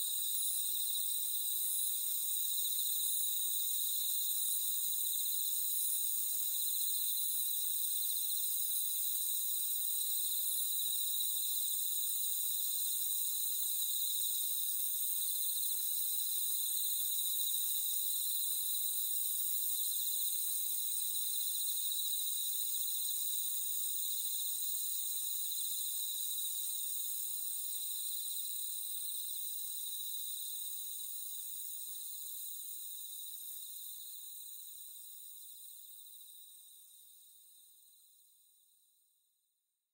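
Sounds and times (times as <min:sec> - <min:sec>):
insects and crickets trilling: 0:00.0 - 0:38.7.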